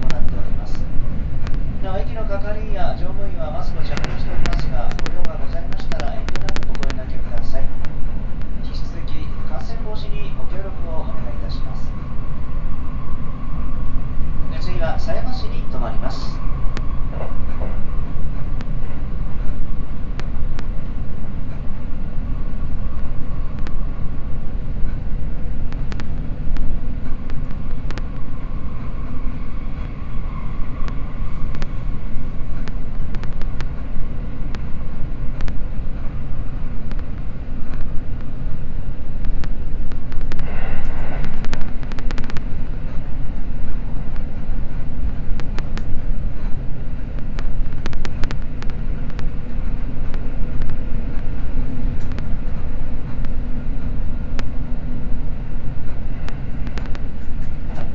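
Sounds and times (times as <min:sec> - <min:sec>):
train cabin low rumble: 0:00.0 - 0:57.9.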